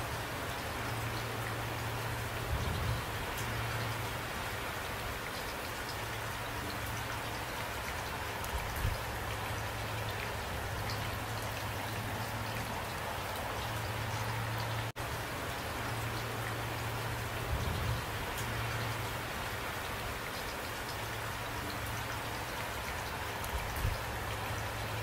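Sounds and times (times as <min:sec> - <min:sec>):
raindrops ticking: 0:00.0 - 0:25.0
steady rain falling: 0:00.0 - 0:25.0.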